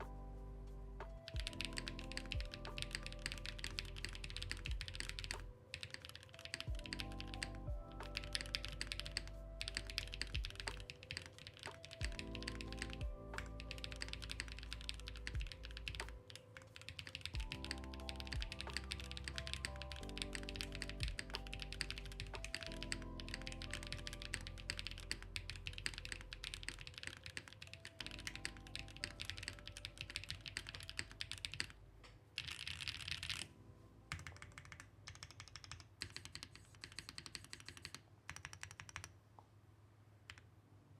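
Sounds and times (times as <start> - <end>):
soft background music: 0.0 - 36.7
mechanical keyboard typing: 1.1 - 31.8, 32.4 - 33.5, 34.1 - 39.2.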